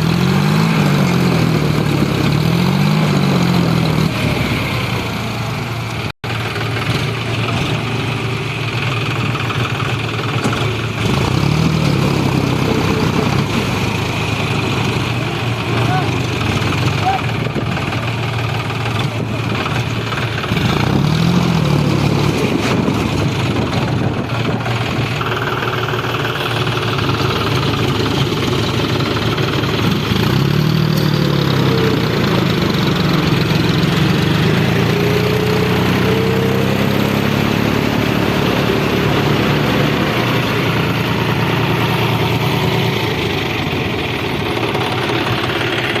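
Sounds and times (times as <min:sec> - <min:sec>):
tractor engine revving: 0:00.0 - 0:46.0.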